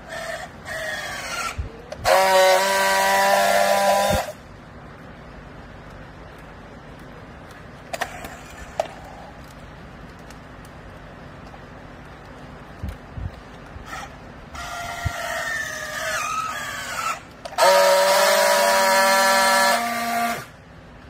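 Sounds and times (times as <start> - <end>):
loud steady buzz: 0.0 - 10.3, 11.0 - 21.0.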